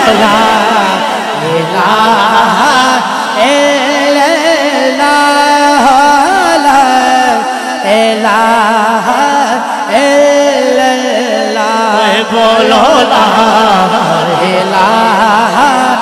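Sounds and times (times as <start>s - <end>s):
man singing melismatic notes: 0.0s - 16.0s.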